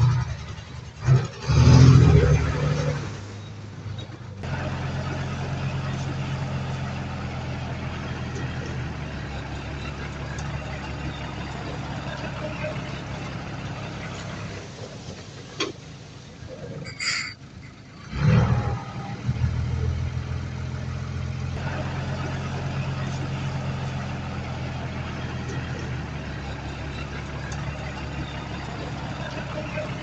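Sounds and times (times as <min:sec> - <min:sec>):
heavy diesel machinery engine running: 0:00.0 - 0:30.0.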